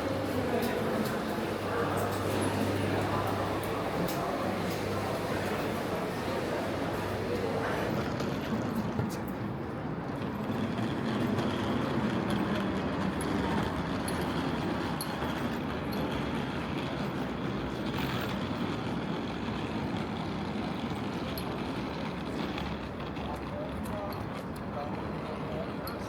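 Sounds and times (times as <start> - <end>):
urban background noise: 0.0 - 26.0.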